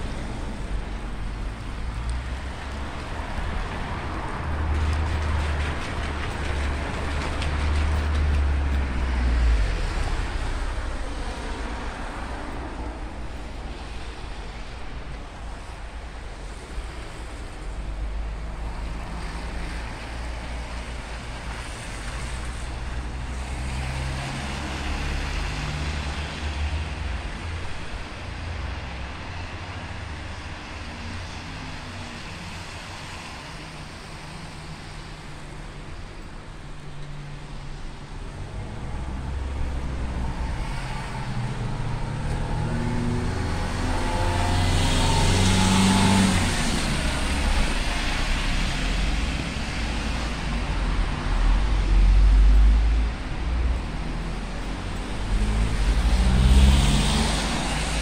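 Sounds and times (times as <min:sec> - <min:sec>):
car engines: 0:00.0 - 0:58.0
tyres on wet asphalt: 0:00.0 - 0:58.0.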